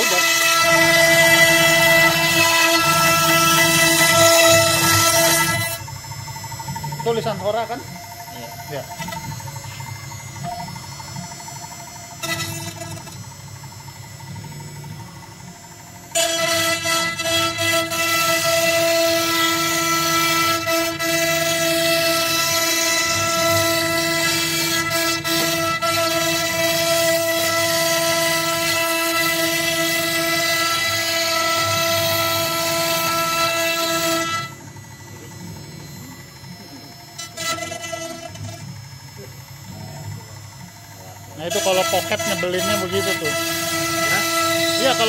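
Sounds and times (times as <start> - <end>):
router spindle high whine: 0.0 - 45.0.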